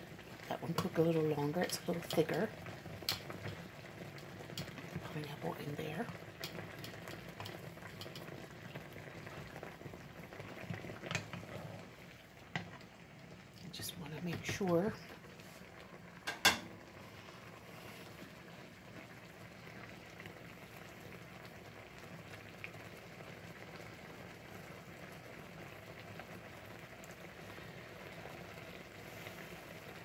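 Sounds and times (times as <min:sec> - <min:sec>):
liquid bubbling in a pan: 0:00.0 - 0:30.0.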